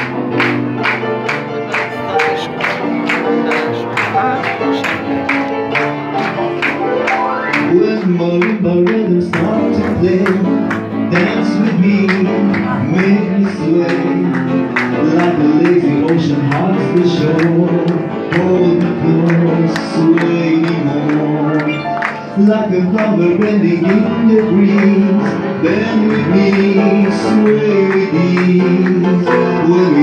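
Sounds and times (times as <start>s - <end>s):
pop song with grand piano: 0.0s - 30.0s.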